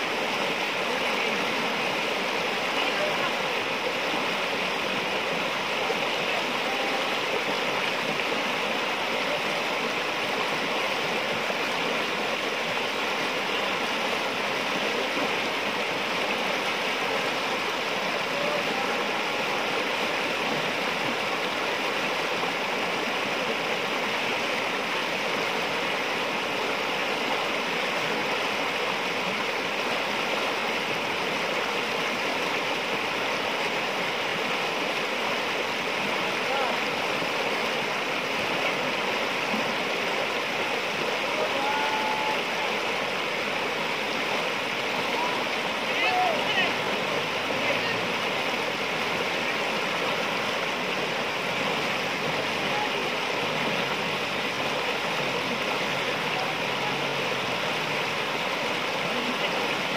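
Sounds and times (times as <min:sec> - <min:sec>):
river rapids rushing: 0:00.0 - 0:59.9.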